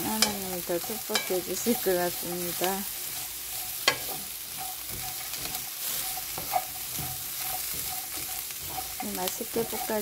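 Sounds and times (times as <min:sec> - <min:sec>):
food sizzling in a hot pan: 0:00.0 - 0:10.0.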